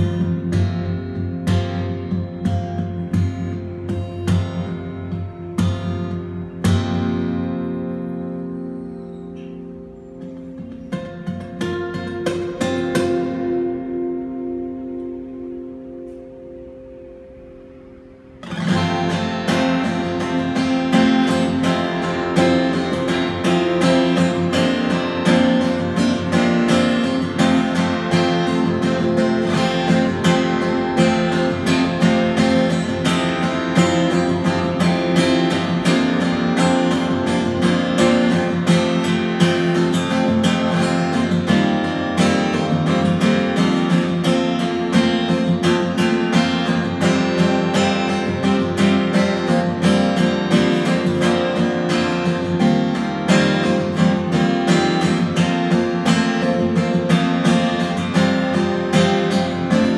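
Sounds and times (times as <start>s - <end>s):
acoustic guitar fingerstyle: 0.0s - 59.9s.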